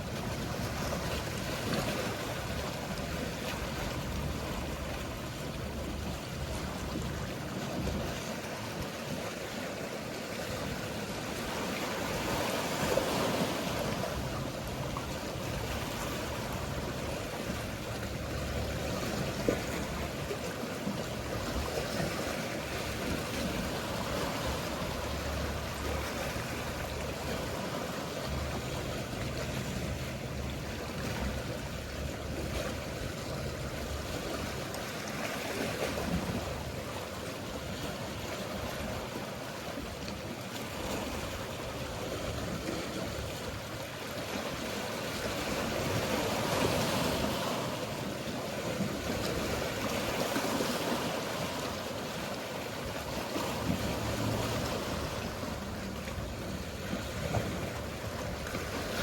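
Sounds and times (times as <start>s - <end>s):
boat engine hum: 0.0s - 59.0s
sea waves washing: 0.0s - 59.0s.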